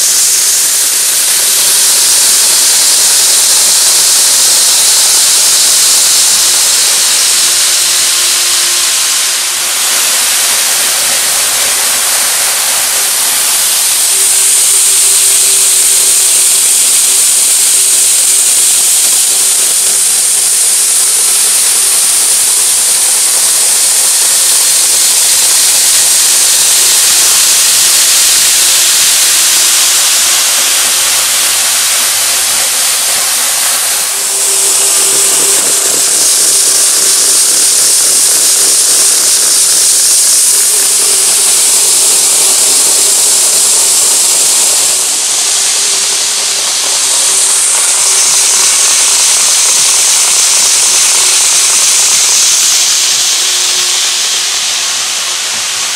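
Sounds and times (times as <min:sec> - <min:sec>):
faint motor whine: 0:00.0 - 0:55.9
model train wheels hissing on rails: 0:00.0 - 0:55.9.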